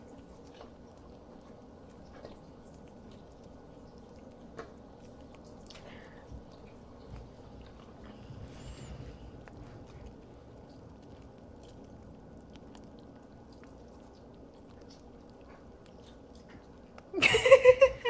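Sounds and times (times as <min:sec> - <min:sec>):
person chewing: 0:00.1 - 0:17.1.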